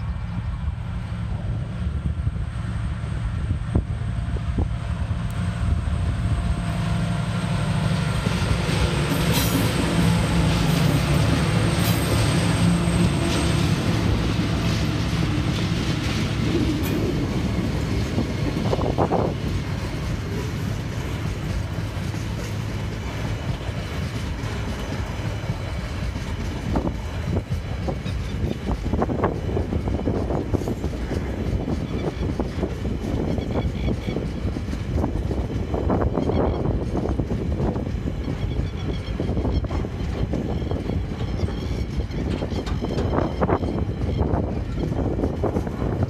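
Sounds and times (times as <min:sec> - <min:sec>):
diesel locomotive engines: 0:00.0 - 0:46.0
train wheels clicking on rails: 0:04.5 - 0:46.0.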